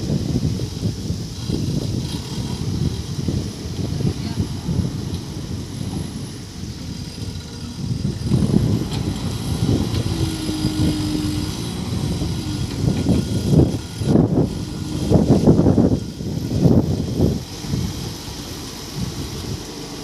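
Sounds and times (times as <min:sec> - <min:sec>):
diesel engine revving: 0:00.0 - 0:20.0
steady whine: 0:00.0 - 0:20.0.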